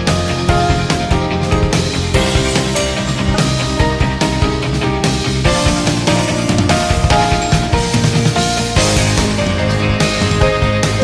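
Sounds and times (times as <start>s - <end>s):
rock background music: 0.0s - 11.0s.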